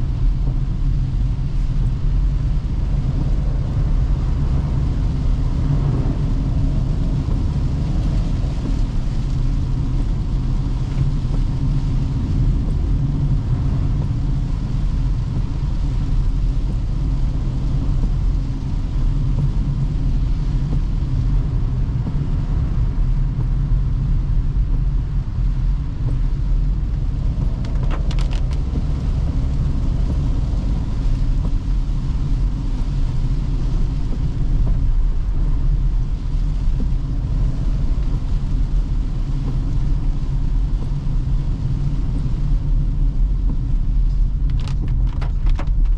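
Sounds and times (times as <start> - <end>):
car road and drivetrain noise: 0.0 - 45.9.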